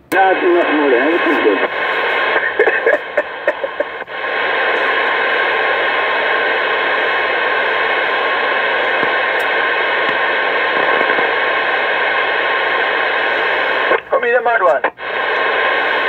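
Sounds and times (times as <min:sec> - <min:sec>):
radio static hiss: 0:00.0 - 0:16.0
radio transmission: 0:00.0 - 0:16.0.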